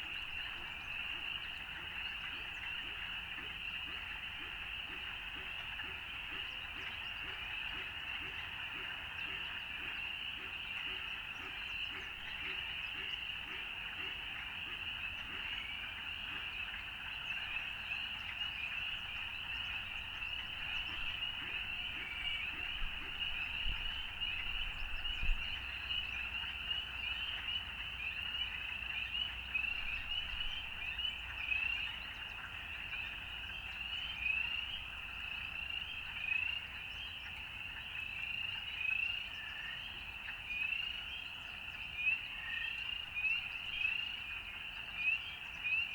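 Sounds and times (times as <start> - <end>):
frogs calling in chorus: 0.4 - 45.9.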